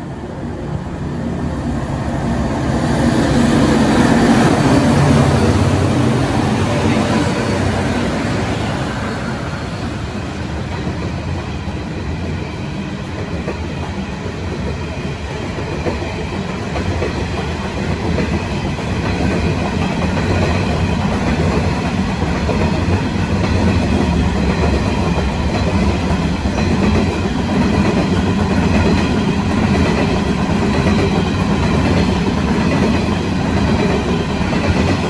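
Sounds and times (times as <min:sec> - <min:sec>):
diesel locomotive engine: 0:00.0 - 0:35.0
train wagons rumbling on rails: 0:01.1 - 0:35.0.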